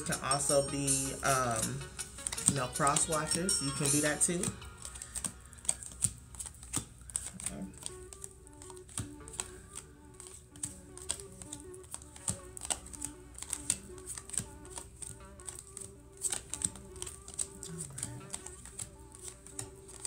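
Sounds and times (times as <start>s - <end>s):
cards being shuffled: 0.0s - 20.0s
faint background music: 0.0s - 20.0s.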